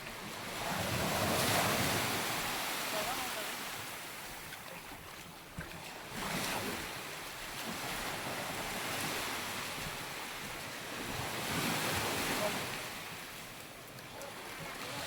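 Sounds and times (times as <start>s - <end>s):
waves washing onto sandy beach: 0.0s - 15.0s.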